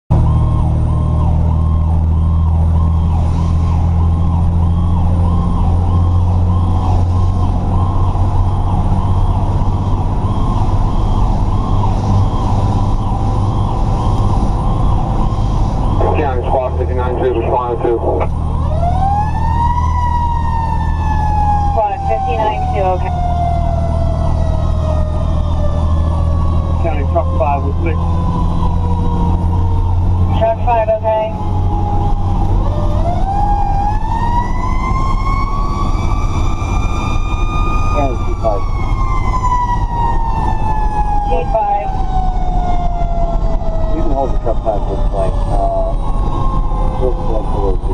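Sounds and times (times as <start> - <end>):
diesel engine drone: 0.1 - 47.9
fire truck siren: 0.1 - 47.9.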